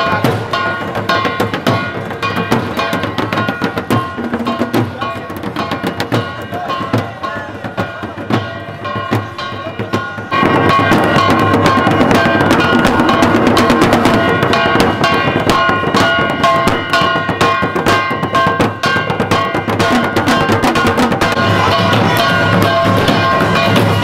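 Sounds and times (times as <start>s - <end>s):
large drums beaten with sticks: 0.0s - 24.0s
steady ringing tones: 0.0s - 24.0s.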